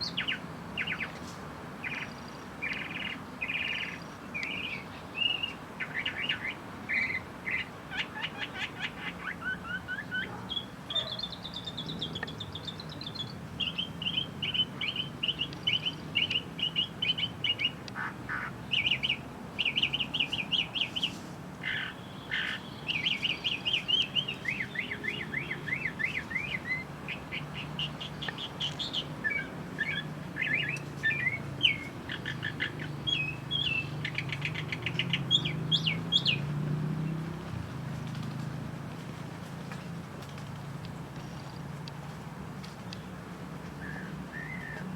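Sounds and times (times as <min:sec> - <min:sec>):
small birds chirping and trilling: 0:00.0 - 0:38.4.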